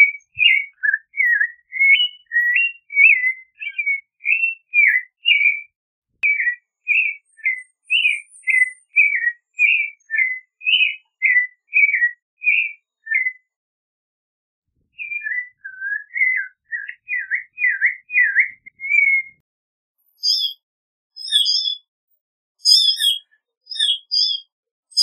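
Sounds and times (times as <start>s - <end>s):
thrush singing whistled phrases: 0.0s - 13.5s, 15.0s - 19.4s, 20.1s - 20.6s, 21.2s - 21.9s, 22.6s - 25.0s.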